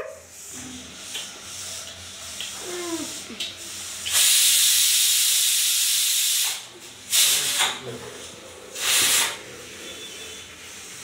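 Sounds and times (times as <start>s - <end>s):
steady loud hiss: 0.3s - 11.0s.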